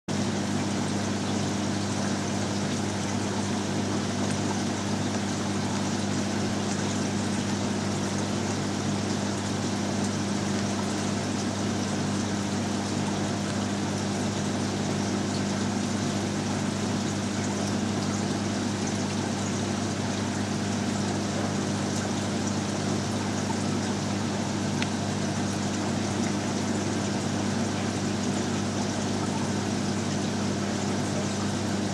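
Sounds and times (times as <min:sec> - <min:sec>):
aquarium pumps humming: 0:00.1 - 0:31.9
water rushing: 0:01.8 - 0:31.9.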